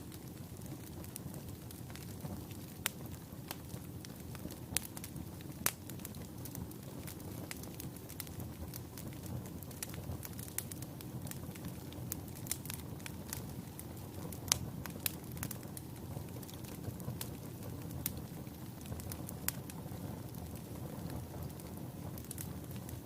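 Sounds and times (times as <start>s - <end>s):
fire burning in fireplace: 0.0s - 23.0s
logs crackling and popping: 0.0s - 23.0s.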